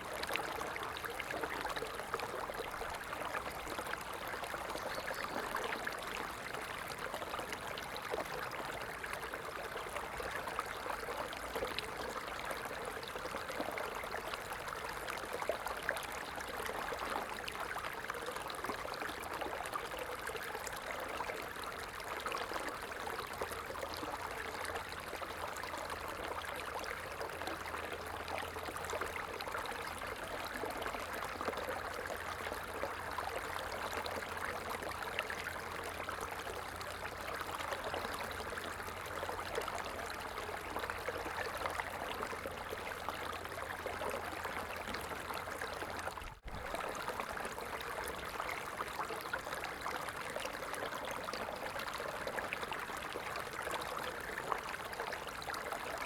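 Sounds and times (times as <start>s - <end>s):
stream burbling and splashing: 0.0s - 56.0s.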